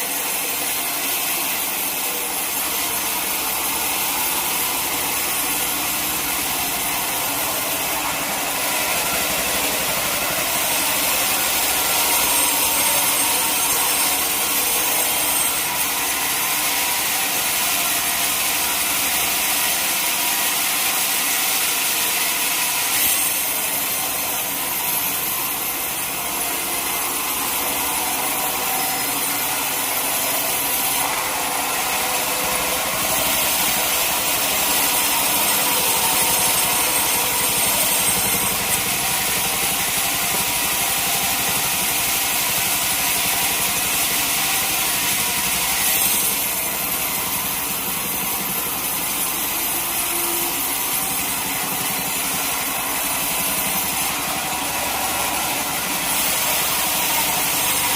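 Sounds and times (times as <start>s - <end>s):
saw cutting through log: 0.0s - 57.9s.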